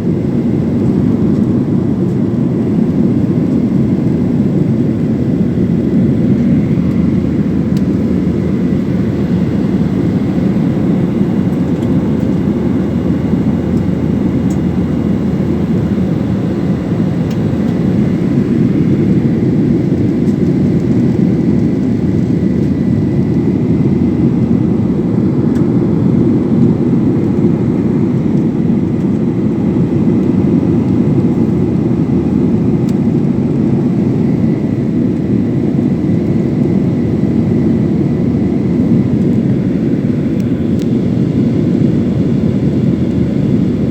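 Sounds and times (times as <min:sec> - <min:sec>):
jet engine cabin rumble: 0:00.0 - 0:43.9.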